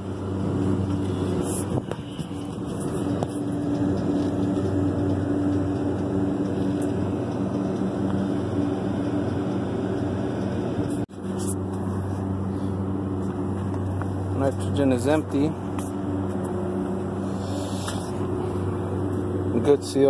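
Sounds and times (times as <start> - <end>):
hvac machinery humming: 0.0 - 20.0.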